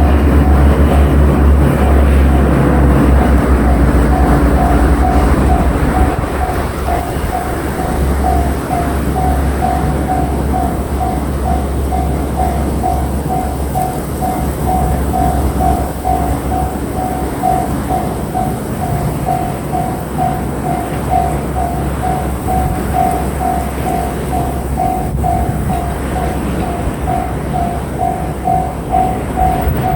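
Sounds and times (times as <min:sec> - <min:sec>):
electric train rumbling past: 0:00.0 - 0:29.9
level crossing bell ringing: 0:02.3 - 0:29.9.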